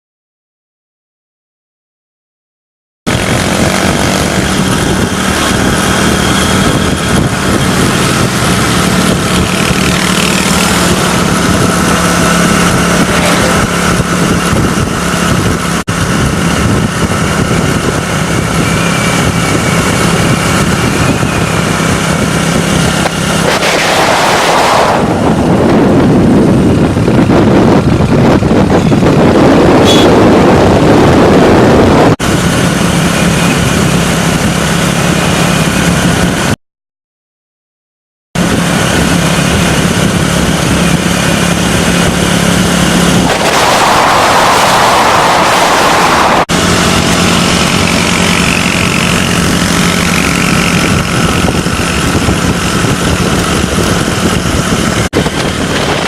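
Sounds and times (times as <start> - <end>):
motorcycle engine running: 3.1 - 36.6, 38.4 - 56.0
rushing noise: 3.1 - 36.6, 38.4 - 56.0.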